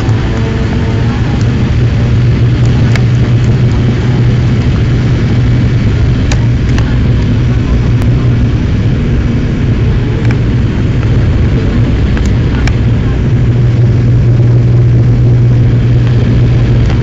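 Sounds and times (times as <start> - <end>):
jet engines droning in cabin: 0.0 - 17.0
wheels rumbling on runway: 0.0 - 17.0.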